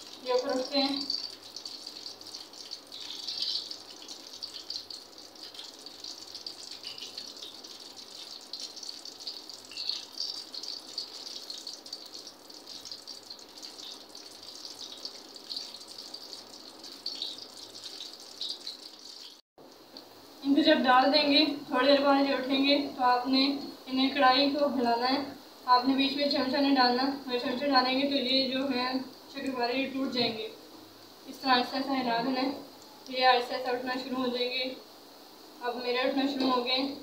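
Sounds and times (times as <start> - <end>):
dough frying in hot oil: 0.0 - 37.0.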